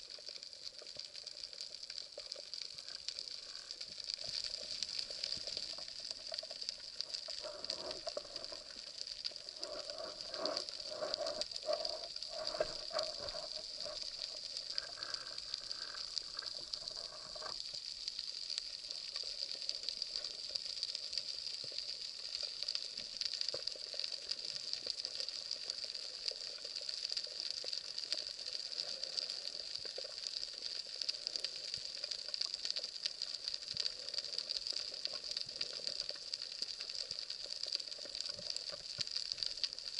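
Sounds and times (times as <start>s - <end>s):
underwater crackling hiss: 0.0s - 39.9s.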